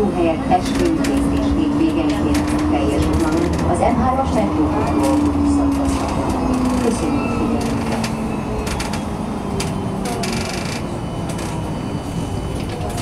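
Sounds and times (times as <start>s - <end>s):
tram rumbling on rails: 0.0s - 13.0s
wheels clicking and rattling: 0.4s - 11.7s.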